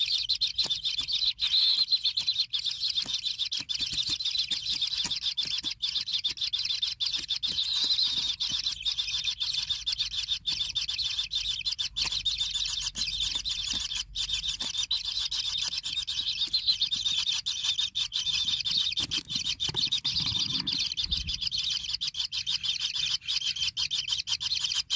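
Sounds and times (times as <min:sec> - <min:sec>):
chicks chirping high-pitched: 0:00.0 - 0:24.9.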